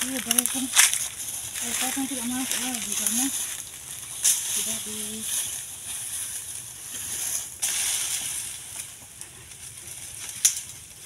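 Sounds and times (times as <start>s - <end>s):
plant litter rustling: 0.0s - 11.0s.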